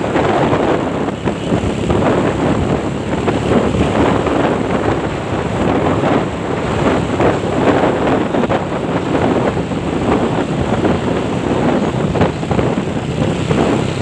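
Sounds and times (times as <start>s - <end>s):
motorcycle ride and traffic: 0.0s - 14.0s
wind buffeting microphone: 0.0s - 14.0s.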